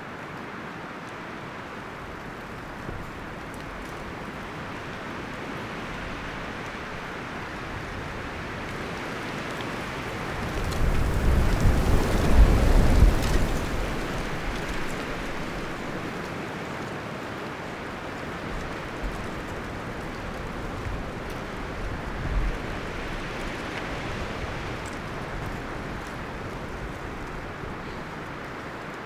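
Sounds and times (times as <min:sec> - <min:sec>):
wind rustling forest leaves: 0:00.0 - 0:29.0
low wind gust buffeting: 0:01.6 - 0:16.4, 0:17.7 - 0:29.0.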